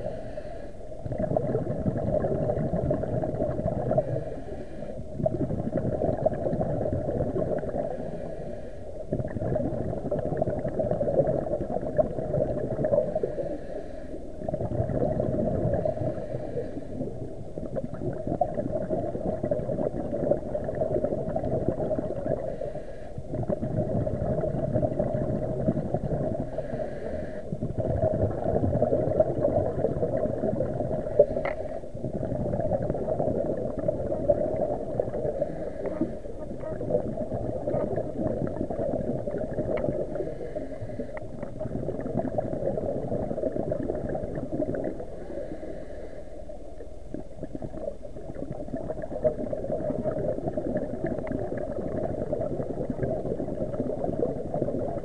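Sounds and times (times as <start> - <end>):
muffled underwater rumble: 0.0 - 55.0
underwater gurgling: 0.0 - 55.0.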